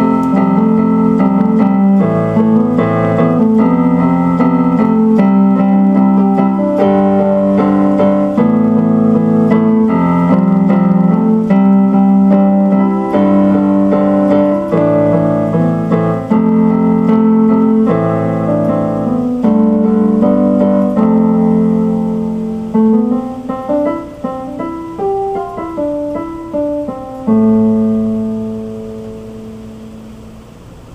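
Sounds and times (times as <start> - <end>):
electric keyboard chords: 0.0 - 30.9.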